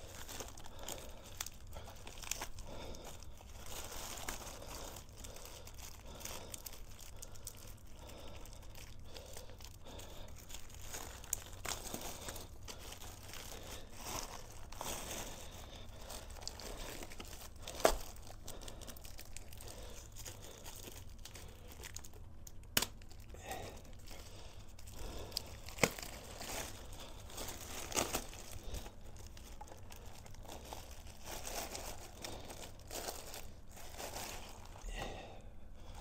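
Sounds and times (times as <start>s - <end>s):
plastic wrapping crinkling and tearing: 0.0s - 36.0s.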